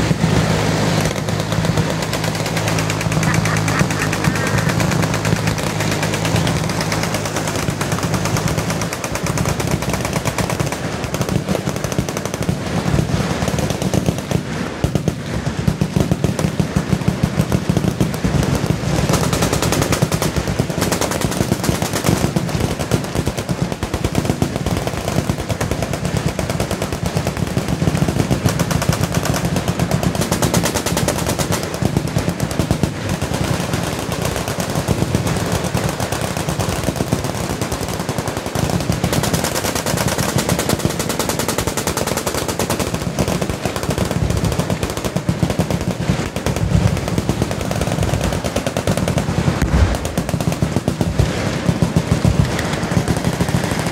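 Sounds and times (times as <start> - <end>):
machine guns firing: 0.0 - 53.9.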